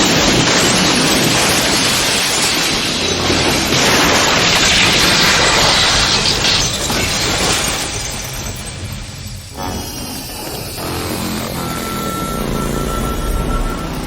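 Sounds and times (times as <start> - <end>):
loud dense crash: 0.0 - 14.0.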